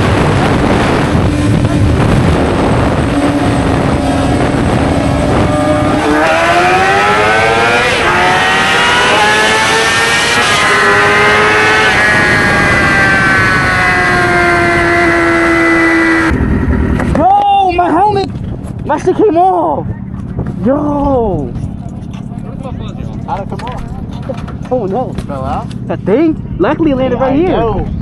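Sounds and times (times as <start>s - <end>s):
wind on microphone: 0.0s - 25.1s, 27.3s - 28.0s
motorcycle engine: 0.0s - 28.0s.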